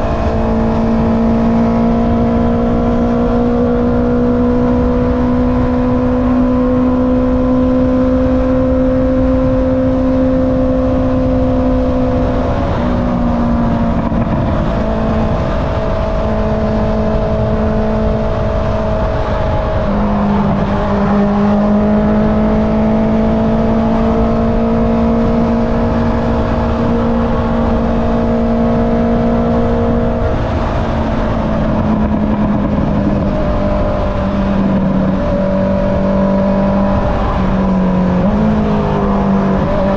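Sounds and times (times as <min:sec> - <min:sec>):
motorcycle engine: 0:00.0 - 0:39.9
wind rush: 0:00.0 - 0:39.9.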